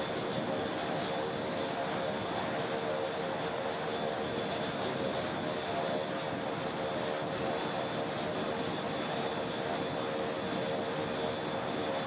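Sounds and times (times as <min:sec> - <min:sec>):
turboprop engine whine: 0:00.0 - 0:12.0.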